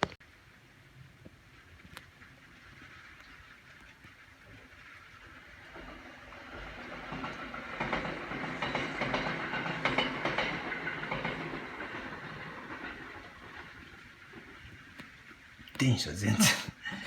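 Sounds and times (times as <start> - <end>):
train wheel clatter: 1.7 - 15.6
electric train passing: 2.3 - 16.3.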